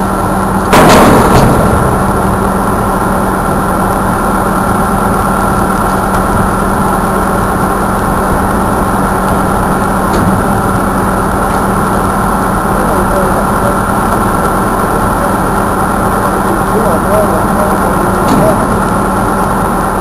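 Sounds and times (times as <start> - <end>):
constant low hum: 0.0 - 20.0
loud droning noise: 0.0 - 20.0.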